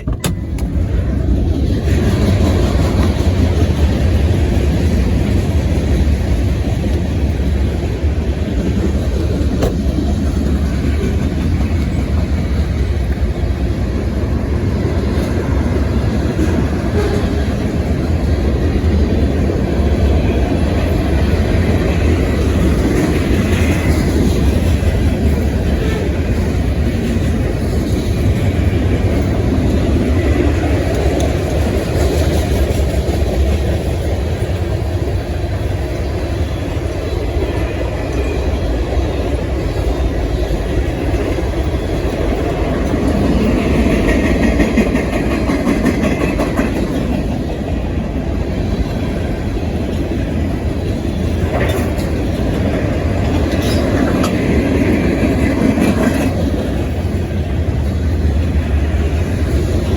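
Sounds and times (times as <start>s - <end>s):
train rumbling past: 0.0s - 59.9s
wheels clickety-clack: 0.0s - 59.9s.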